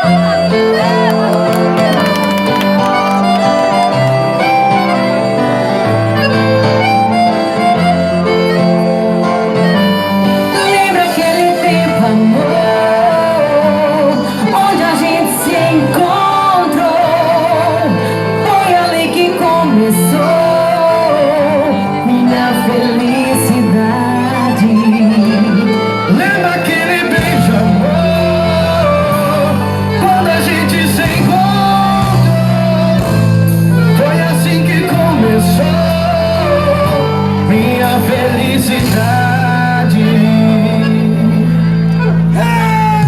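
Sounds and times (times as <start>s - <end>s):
folk dance music with bass: 0.0s - 43.0s.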